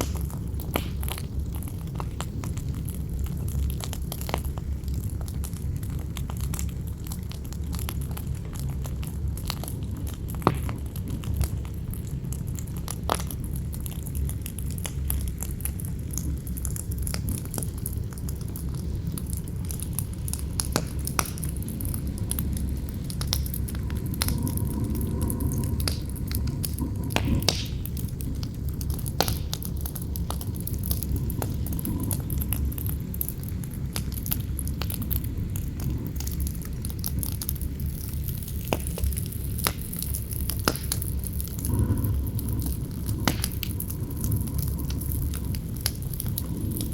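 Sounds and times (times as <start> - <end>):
campfire crackling and popping: 0.0 - 46.9
low wind rumble: 0.0 - 46.9.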